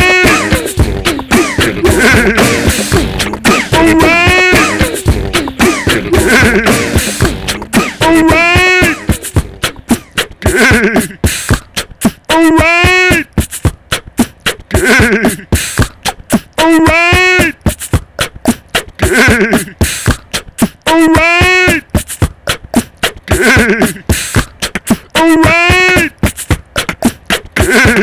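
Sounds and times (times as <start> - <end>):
looped beatbox groove: 0.0 - 28.0.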